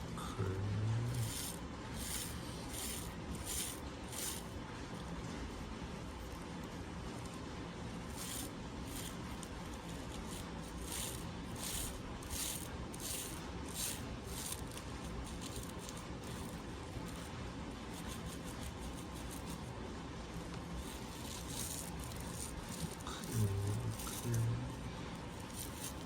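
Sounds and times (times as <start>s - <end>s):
brush scrubbing back and forth: 0.0s - 26.0s.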